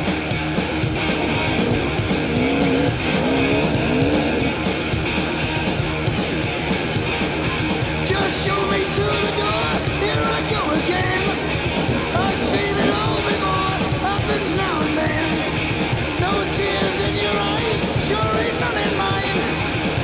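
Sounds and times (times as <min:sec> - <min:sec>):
rock music with singing: 0:00.0 - 0:20.0.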